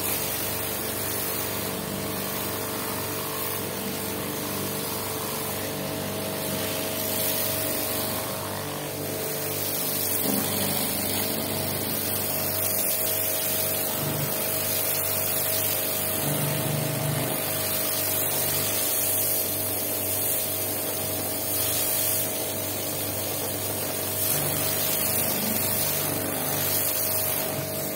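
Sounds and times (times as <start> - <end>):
pressure washer spray hiss: 0.0 - 27.9.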